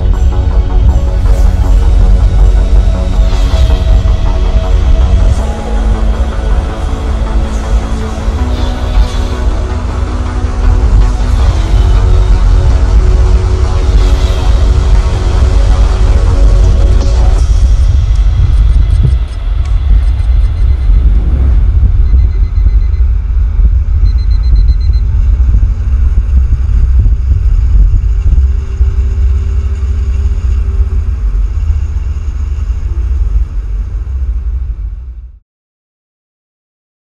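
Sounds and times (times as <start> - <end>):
faint steady whine: 0.0 - 35.3
wind and road noise rumble: 0.0 - 35.4.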